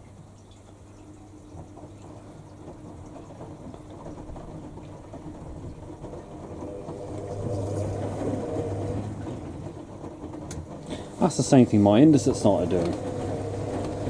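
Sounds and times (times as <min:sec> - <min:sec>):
washing machine drum humming: 0:00.0 - 0:14.0.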